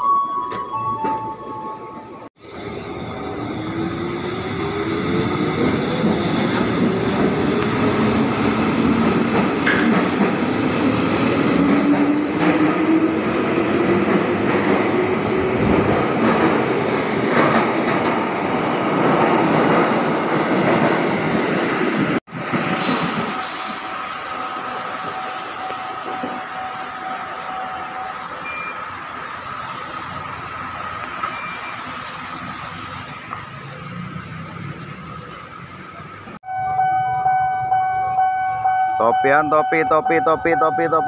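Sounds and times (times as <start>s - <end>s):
train running on rails: 0.3s - 41.0s.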